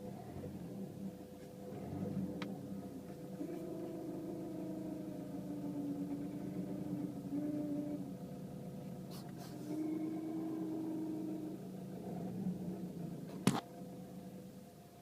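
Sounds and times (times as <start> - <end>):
diesel engine drone: 0.0 - 15.0
engine whine: 0.0 - 15.0.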